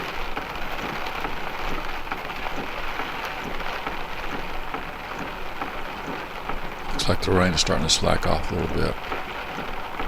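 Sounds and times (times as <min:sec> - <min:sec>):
heavy rain on vehicle: 0:00.0 - 0:10.0.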